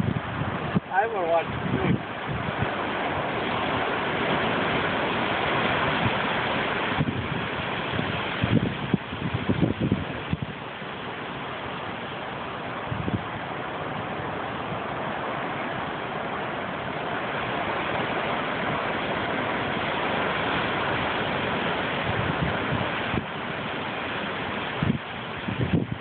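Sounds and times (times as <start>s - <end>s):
surf: 0.0s - 26.0s
wind: 0.0s - 26.0s.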